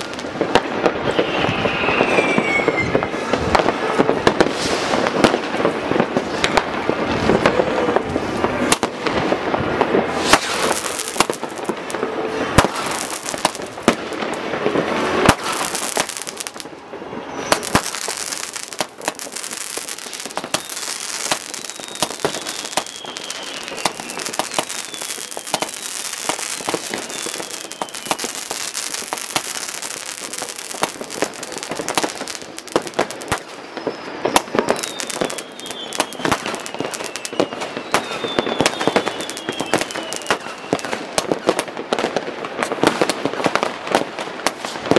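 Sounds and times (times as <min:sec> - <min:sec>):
falling firework whistles: 0:00.0 - 0:09.1, 0:10.0 - 0:44.9
firework bangs: 0:00.0 - 0:44.9
fireworks popping and crackling: 0:00.0 - 0:44.9.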